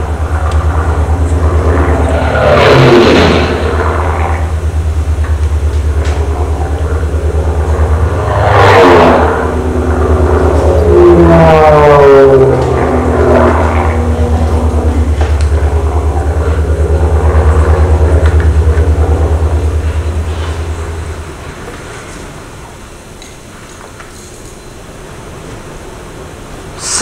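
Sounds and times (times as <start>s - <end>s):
propeller airplane engine droning: 0.0s - 27.0s.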